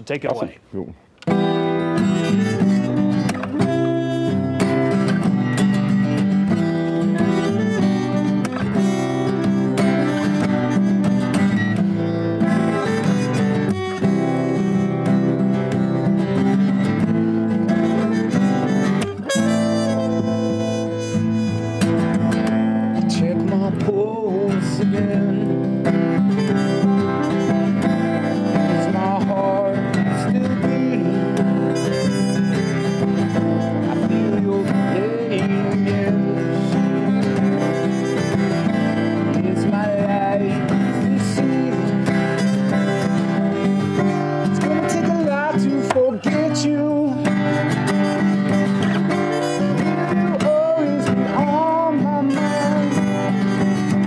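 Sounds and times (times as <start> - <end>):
strummed acoustic guitar: 0.3 - 54.0
muted trumpet melody: 1.4 - 23.0, 25.9 - 54.0.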